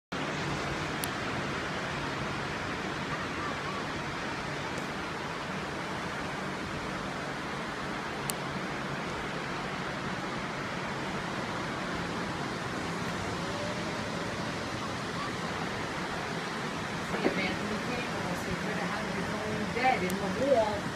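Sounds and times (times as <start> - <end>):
distant ocean surf: 0.1 - 20.9.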